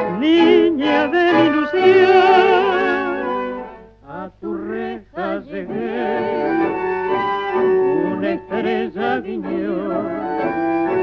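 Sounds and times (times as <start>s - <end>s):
orchestra playing tango: 0.0s - 3.9s, 5.4s - 11.0s
person singing with vibrato: 0.0s - 11.0s.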